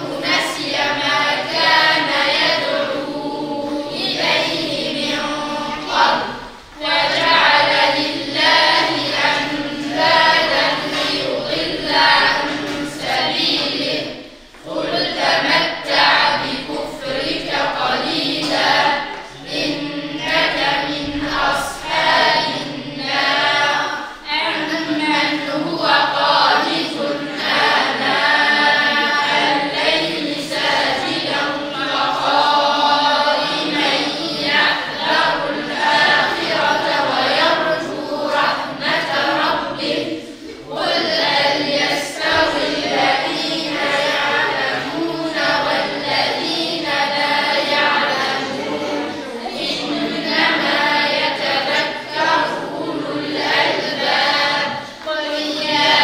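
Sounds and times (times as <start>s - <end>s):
children chanting in unison: 0.0s - 56.0s.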